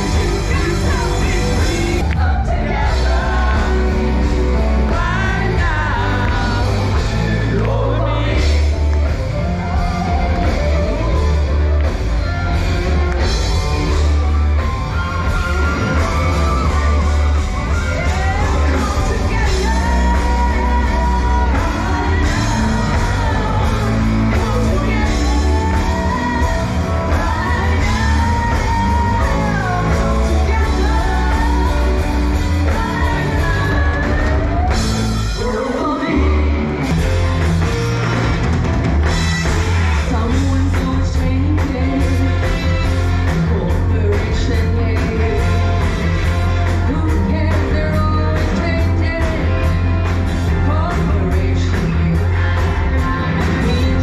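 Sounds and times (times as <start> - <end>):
lead singer singing: 0.0 - 37.8, 39.0 - 54.0
live rock band playing: 0.0 - 54.0.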